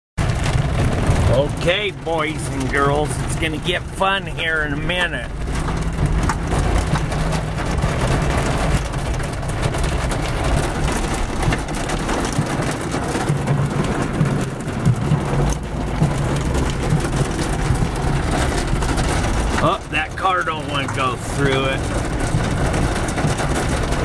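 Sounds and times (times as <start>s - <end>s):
car low rumble: 0.2s - 24.0s
heavy rain on car roof: 0.2s - 24.0s.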